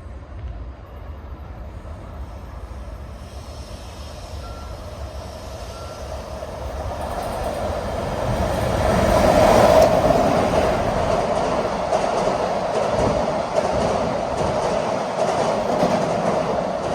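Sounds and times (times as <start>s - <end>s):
freight train rumbling past: 0.0s - 16.9s.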